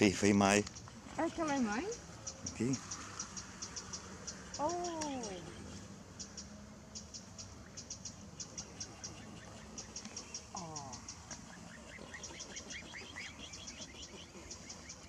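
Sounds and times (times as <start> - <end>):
faint high chirping ticks: 0.6 - 15.0.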